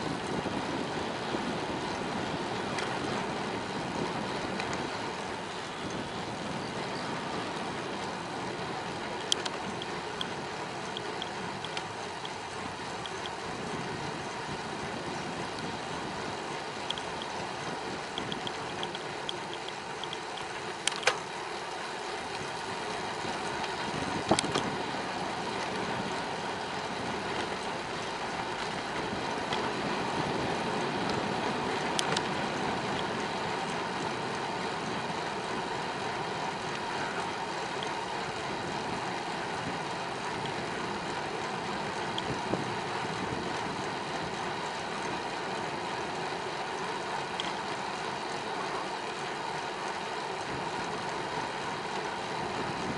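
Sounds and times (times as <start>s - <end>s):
bicycle tyres hissing: 0.0s - 52.9s.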